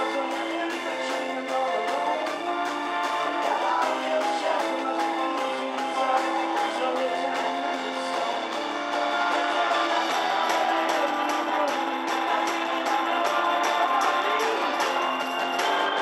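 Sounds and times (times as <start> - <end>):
bass guitar: 0.0 - 16.0
electric guitars strumming: 0.0 - 16.0
man singing: 0.0 - 16.0
steady drumbeat: 0.0 - 16.0.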